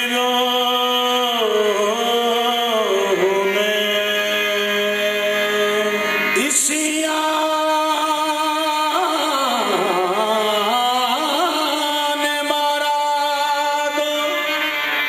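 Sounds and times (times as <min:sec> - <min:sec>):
harmonium: 0:00.0 - 0:15.0
man singing long notes: 0:00.0 - 0:15.0.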